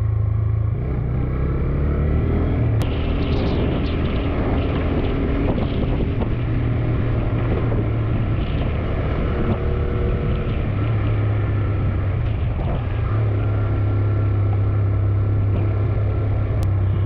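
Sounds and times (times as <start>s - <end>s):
motorcycle engine running: 0.0s - 17.0s
wind buffeting microphone: 2.5s - 17.0s.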